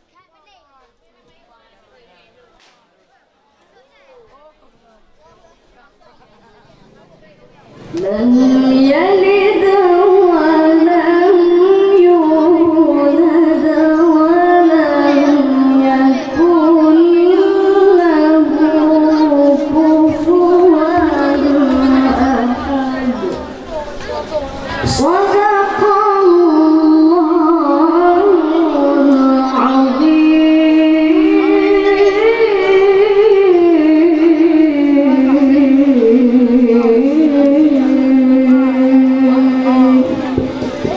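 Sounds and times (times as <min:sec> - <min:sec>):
boy chanting into a microphone: 0:07.7 - 0:40.9
young man reciting melodically: 0:07.7 - 0:40.9.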